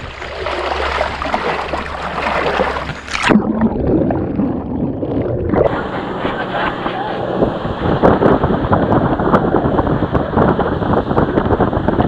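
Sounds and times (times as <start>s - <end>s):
water rushing against boat hull: 0.0s - 12.0s.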